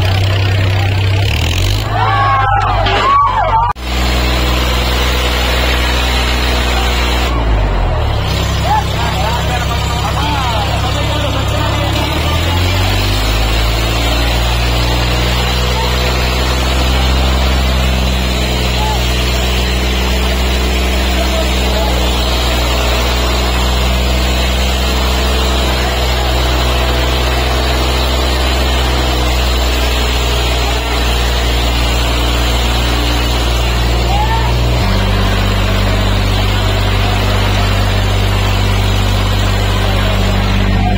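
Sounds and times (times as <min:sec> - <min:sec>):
diesel tractor engines straining: 0:00.0 - 0:40.9.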